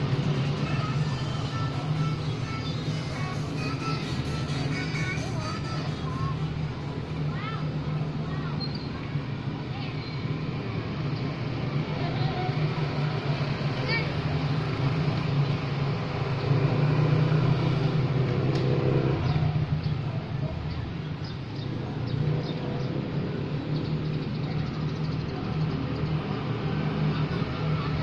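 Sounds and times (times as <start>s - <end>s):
low engine hum of traffic: 0.0s - 28.0s
motorcycles passing: 0.0s - 28.0s.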